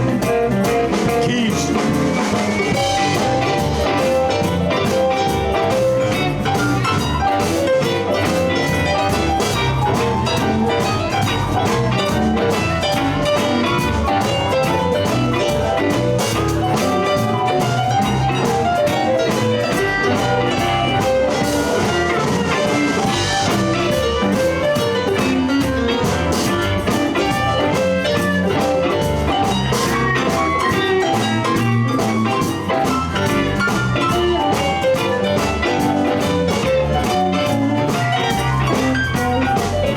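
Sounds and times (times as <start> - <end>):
bass: 0.0 - 39.9
drum kit: 0.0 - 39.9
electric guitar playing blues: 0.0 - 39.9
keyboard: 0.0 - 39.9.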